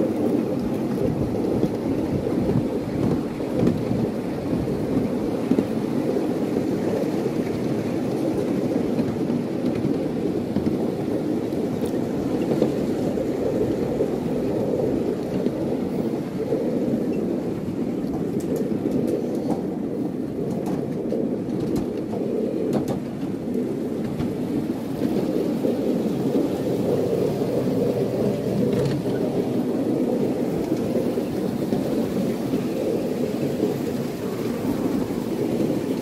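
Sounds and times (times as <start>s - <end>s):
wheels rumbling on rail: 0.0s - 36.0s.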